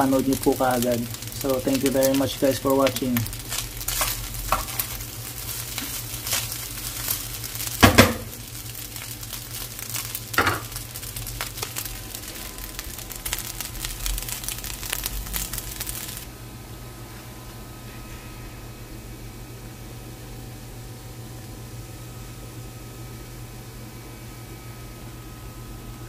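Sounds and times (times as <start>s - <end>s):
rice sizzling in a pan: 0.0s - 26.0s.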